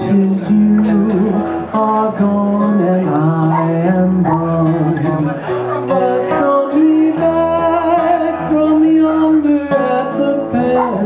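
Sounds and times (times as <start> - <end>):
acoustic guitar: 0.0 - 11.0
man singing: 0.0 - 11.0.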